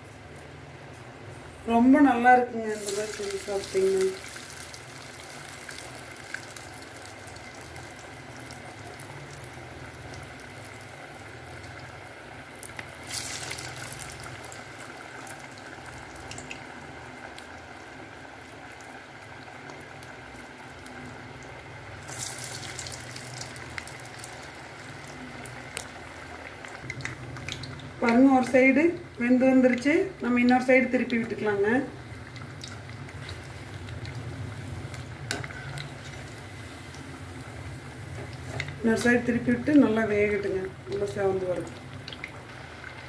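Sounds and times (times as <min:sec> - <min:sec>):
food deep-frying in hot oil: 0:00.0 - 0:43.0.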